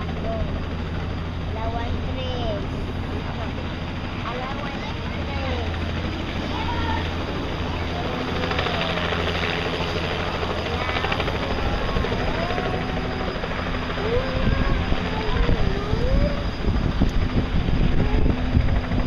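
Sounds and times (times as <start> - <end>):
gusty wind buffeting microphone: 0.0 - 19.0
helicopter drone: 0.0 - 19.0
faint voices: 1.4 - 19.0.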